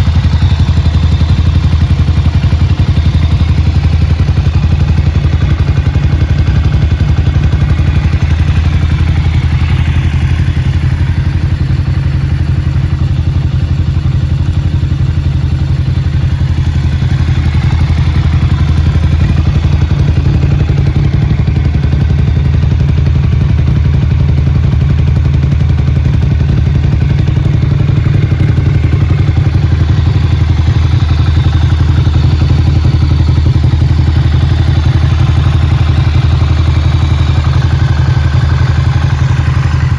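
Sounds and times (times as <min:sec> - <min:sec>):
loud motorcycle engine running: 0:00.0 - 0:39.9.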